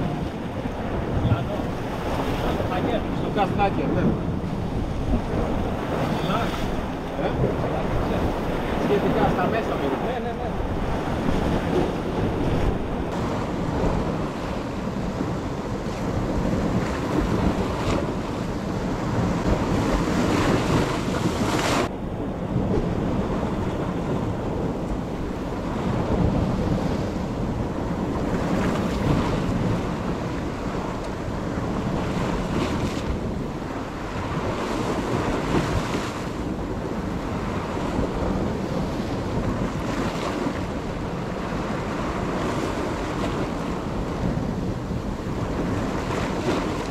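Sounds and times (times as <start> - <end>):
surf breaking against rocks: 0.0 - 21.9, 22.5 - 46.9
wind buffeting microphone: 0.0 - 46.9.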